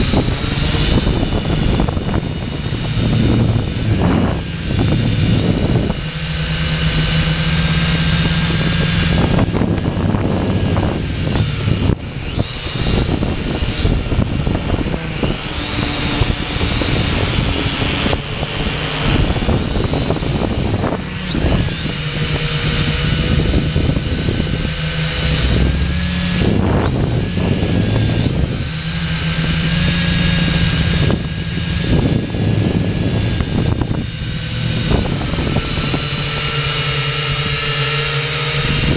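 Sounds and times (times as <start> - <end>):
drone motors whining: 0.0 - 38.9
wind rumble on microphone: 0.0 - 38.9.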